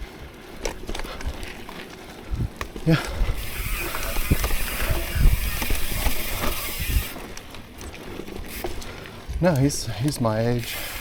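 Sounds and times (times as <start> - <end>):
bike knocks and rattles: 0.0 - 11.0
bike tyres hissing on dirt: 0.0 - 11.0.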